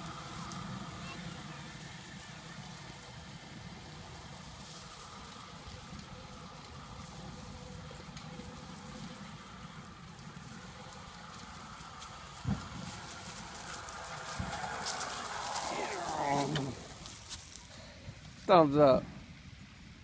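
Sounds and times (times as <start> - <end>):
even hiss: 0.0 - 20.0.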